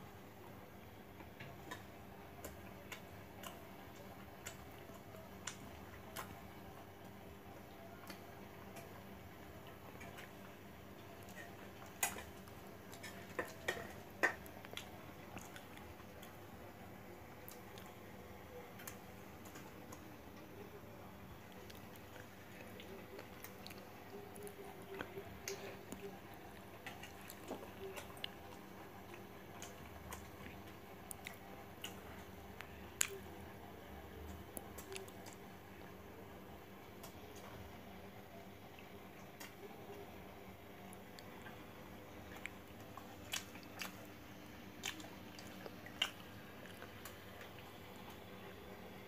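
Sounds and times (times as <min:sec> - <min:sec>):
faint room hum: 0:00.0 - 0:49.0
chewing: 0:01.2 - 0:33.3, 0:34.3 - 0:35.5, 0:36.9 - 0:48.9.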